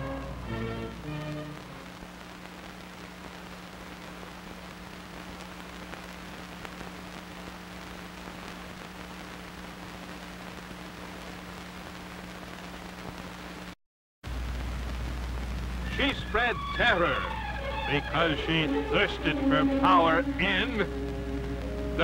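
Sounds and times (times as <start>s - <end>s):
film soundtrack hiss and hum: 0.0s - 22.0s.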